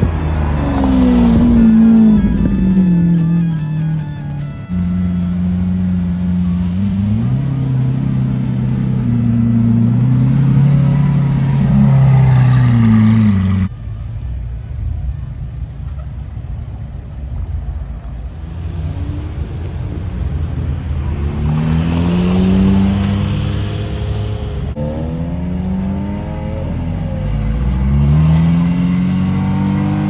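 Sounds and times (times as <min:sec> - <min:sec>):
car engine revving: 0:00.0 - 0:13.7, 0:18.5 - 0:30.0
low rumble of cars: 0:00.0 - 0:30.0.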